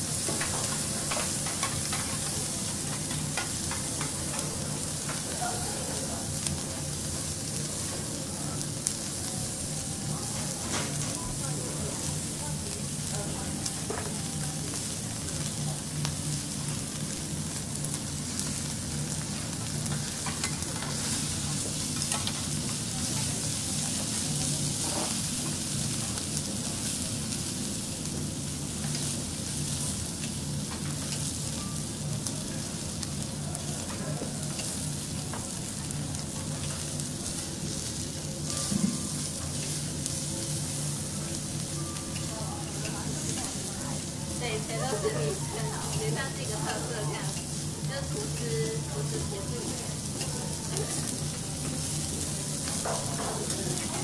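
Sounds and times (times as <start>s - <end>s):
steak sizzling on griddle: 0.0s - 54.0s.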